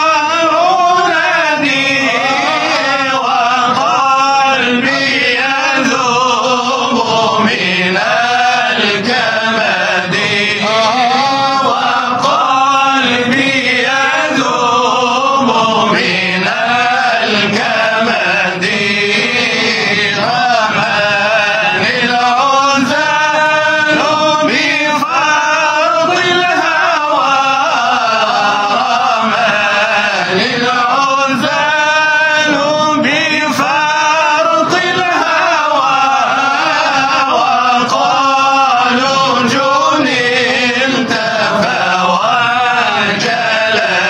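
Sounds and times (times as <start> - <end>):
men chanting a devotional hymn: 0.0 - 44.0.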